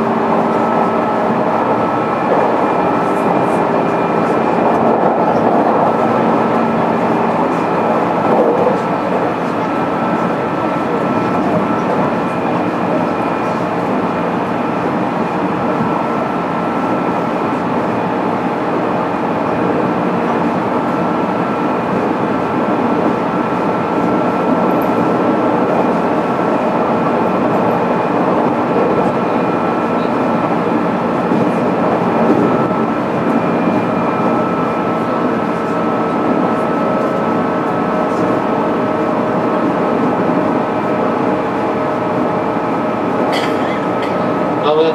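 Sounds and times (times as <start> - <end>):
wheel-on-rail rumble: 0.0 - 44.9.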